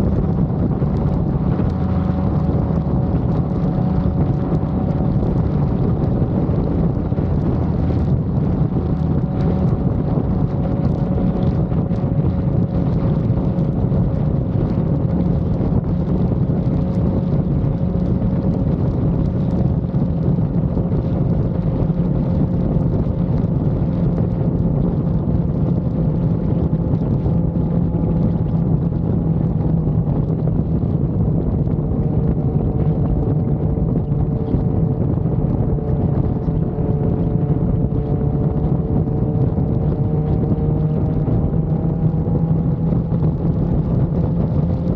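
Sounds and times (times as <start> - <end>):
motorcycle engine cruising: 0.0 - 44.9
wind buffeting microphone: 0.0 - 44.9.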